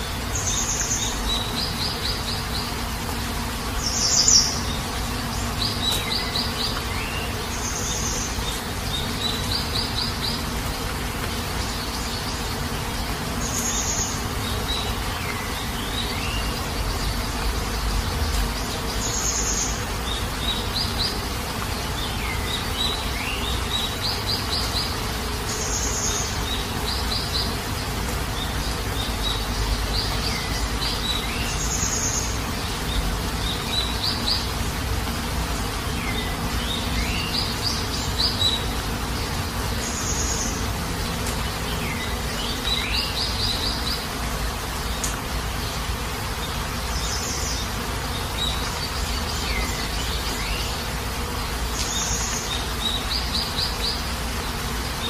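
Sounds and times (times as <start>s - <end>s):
birds chirping and trilling: 0.0s - 55.0s
heavy rain: 0.0s - 55.0s.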